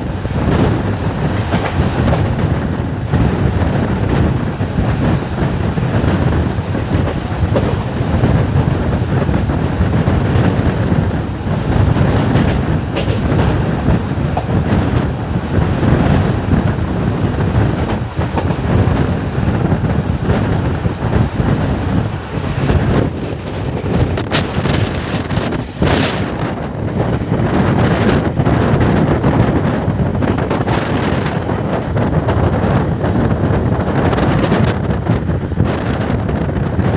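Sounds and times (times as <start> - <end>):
train wheels rumbling on track: 0.0 - 36.9.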